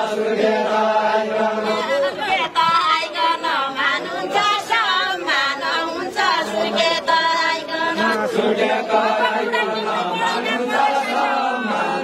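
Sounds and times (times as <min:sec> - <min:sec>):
group singing unaccompanied: 0:00.0 - 0:12.0.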